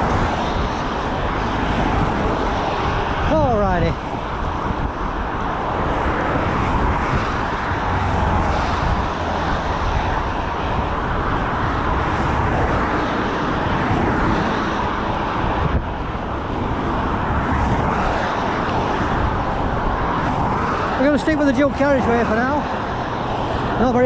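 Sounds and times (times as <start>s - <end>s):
cars passing close by: 0.0s - 24.0s.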